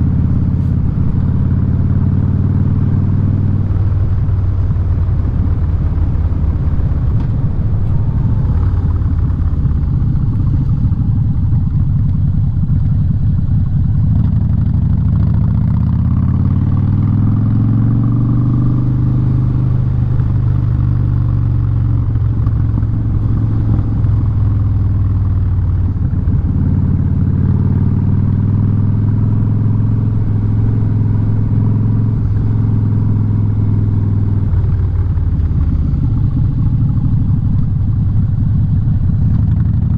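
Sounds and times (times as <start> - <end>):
motorcycle engine with loud exhaust: 0.0 - 39.9.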